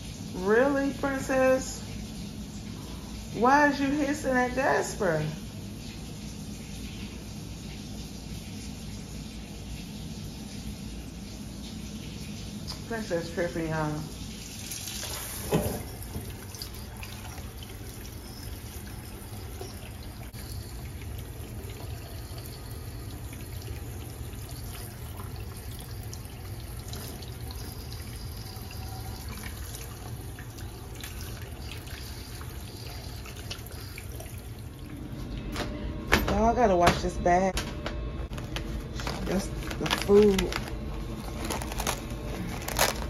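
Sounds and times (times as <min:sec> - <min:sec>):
trickle of running water: 0:00.0 - 0:35.4, 0:38.3 - 0:43.0.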